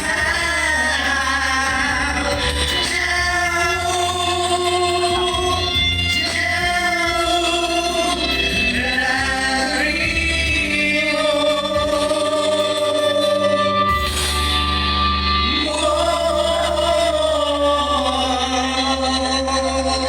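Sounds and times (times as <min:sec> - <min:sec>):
person singing long notes: 0:00.0 - 0:20.0
steady low bass: 0:00.0 - 0:20.0.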